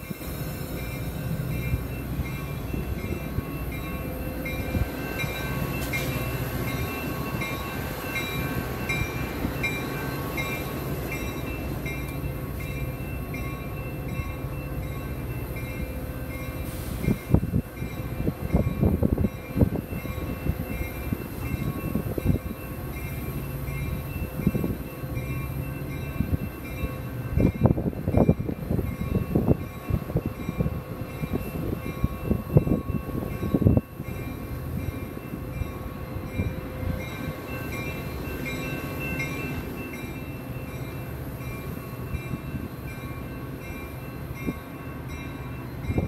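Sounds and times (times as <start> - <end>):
train rolling on rails: 0.0 - 46.0.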